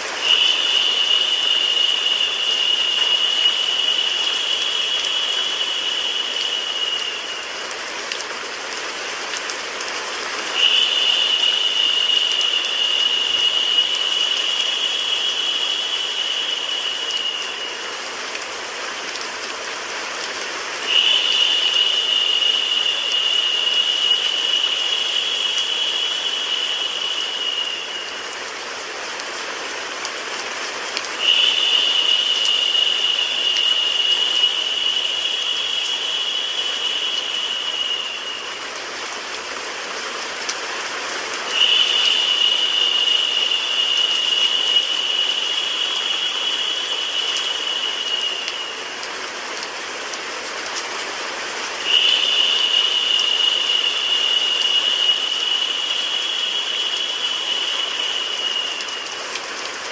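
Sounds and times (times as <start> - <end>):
high hissing whine: 0.0 - 50.7, 51.3 - 59.9
steady rain: 0.0 - 59.9.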